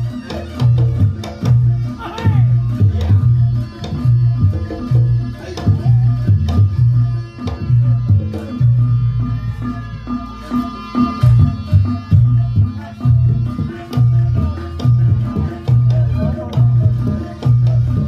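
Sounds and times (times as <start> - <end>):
hand drums in driving rhythm: 0.0 - 9.2, 10.5 - 18.0.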